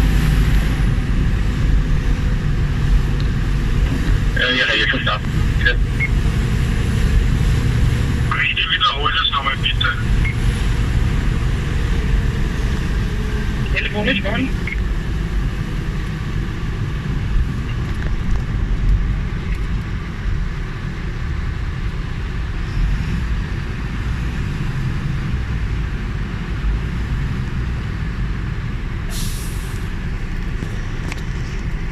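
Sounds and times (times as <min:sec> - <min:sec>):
fire engine rumbling: 0:00.0 - 0:31.9.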